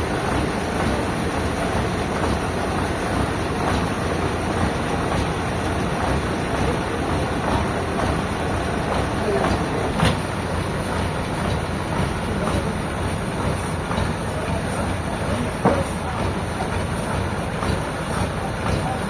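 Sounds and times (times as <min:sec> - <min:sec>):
sawmill machinery rumbling: 0:00.0 - 0:19.0.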